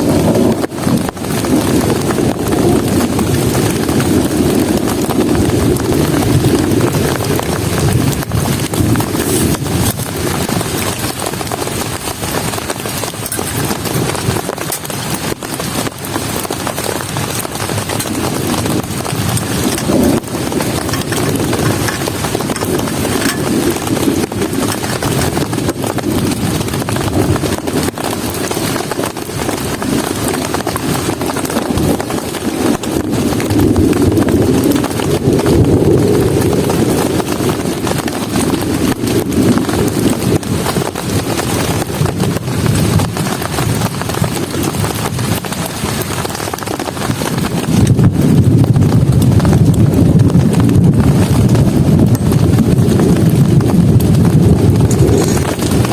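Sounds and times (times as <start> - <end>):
heavy rain on fabric shelter: 0.0 - 55.9.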